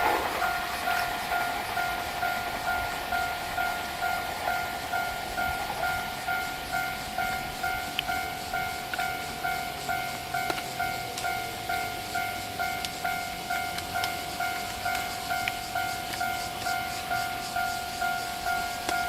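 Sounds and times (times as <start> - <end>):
level crossing bell ringing: 0.0 - 19.0
passing train: 0.0 - 19.0.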